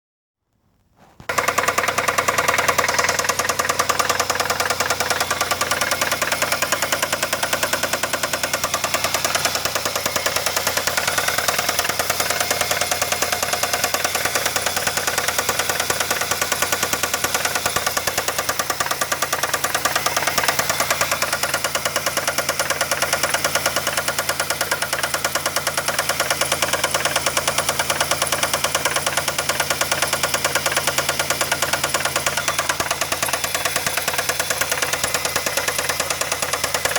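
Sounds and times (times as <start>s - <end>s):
car engine running: 1.0s - 36.9s
engine knocking: 1.2s - 36.9s.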